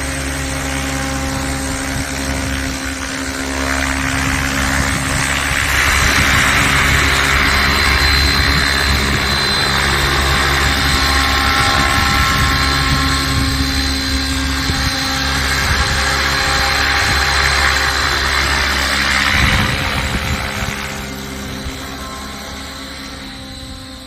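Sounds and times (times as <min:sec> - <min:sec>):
rc helicopter rotor throbbing: 0:00.0 - 0:24.0
thin high whine: 0:00.0 - 0:24.0.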